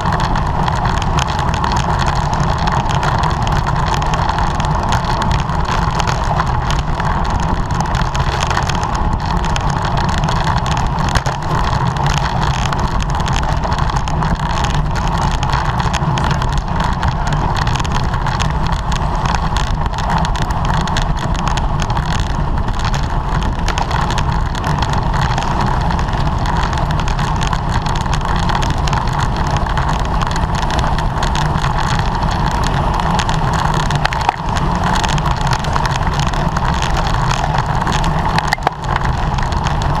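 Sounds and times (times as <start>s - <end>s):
road noise: 0.0s - 40.0s.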